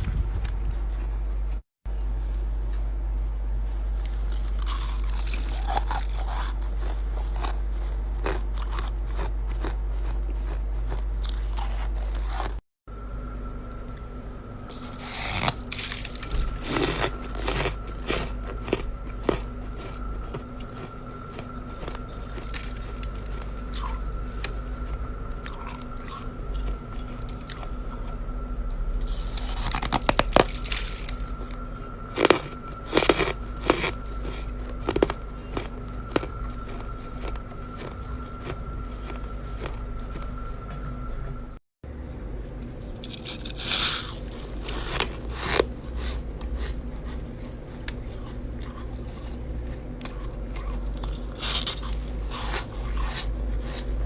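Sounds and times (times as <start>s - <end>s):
steady hum: 0.0s - 54.0s
ice being chewed and crunched: 4.0s - 12.6s, 14.7s - 40.6s, 42.4s - 54.0s.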